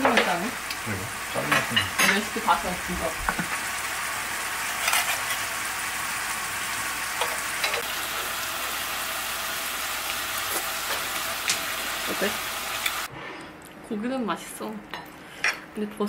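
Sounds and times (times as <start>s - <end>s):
sauce sizzling in a frying pan: 0.0s - 13.1s.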